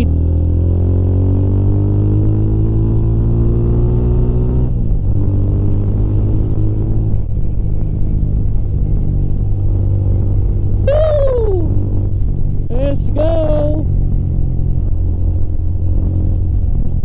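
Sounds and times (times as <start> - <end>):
motorcycle engine accelerating: 0.0 - 17.0
wind rumble: 0.0 - 17.0.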